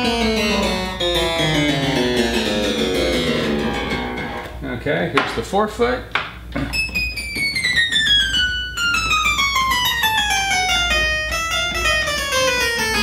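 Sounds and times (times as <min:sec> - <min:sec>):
harpsichord descending scale: 0:00.0 - 0:04.8, 0:06.7 - 0:13.0.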